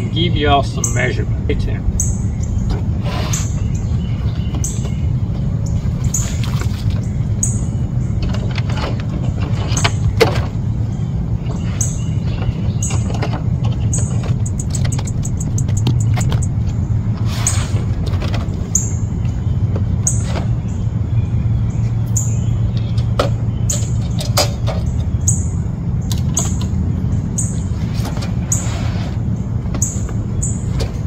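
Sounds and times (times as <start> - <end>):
steady low rumble: 0.0 - 28.5.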